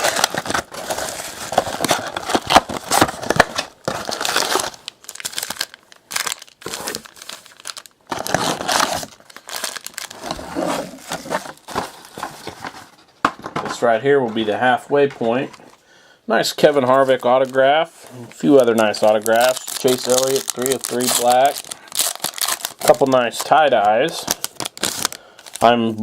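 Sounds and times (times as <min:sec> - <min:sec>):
plastic wrapping crinkling and tearing: 0:00.0 - 0:12.8, 0:16.7 - 0:25.8.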